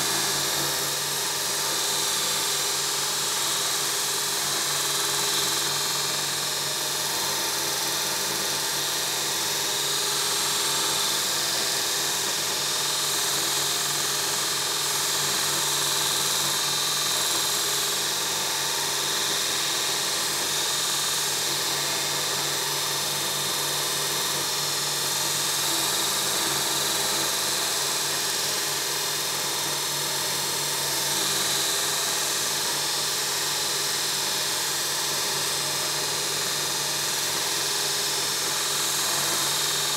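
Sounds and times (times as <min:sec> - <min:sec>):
belt grinder grinding metal: 0:00.0 - 0:39.9
grinder motor hum: 0:00.0 - 0:39.9.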